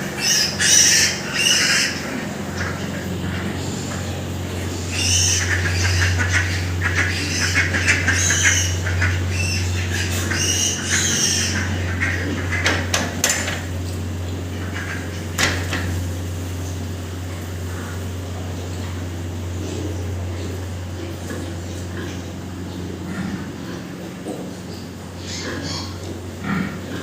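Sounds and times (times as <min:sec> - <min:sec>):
pigs squealing: 0:00.0 - 0:27.0
steady low hum: 0:00.0 - 0:27.0.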